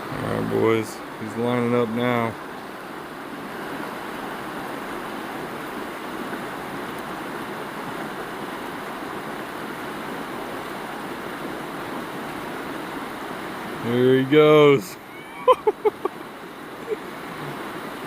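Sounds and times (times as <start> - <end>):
river rapids rushing: 0.0 - 18.0.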